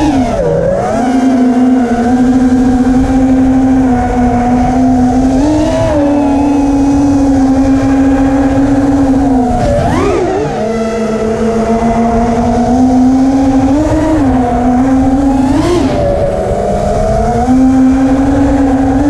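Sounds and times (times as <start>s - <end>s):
low rumble of wind: 0.0s - 19.0s
quadcopter motors buzzing whine: 0.0s - 19.0s.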